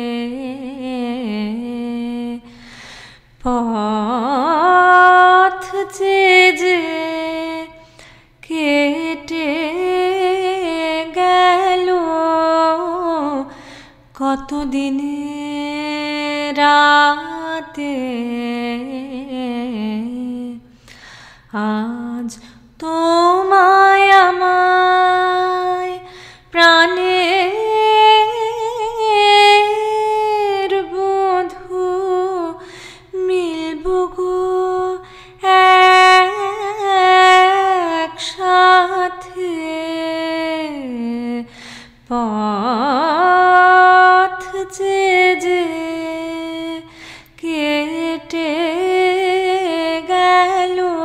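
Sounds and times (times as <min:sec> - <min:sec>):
woman singing with vibrato: 0:00.0 - 0:20.9, 0:21.5 - 0:51.0.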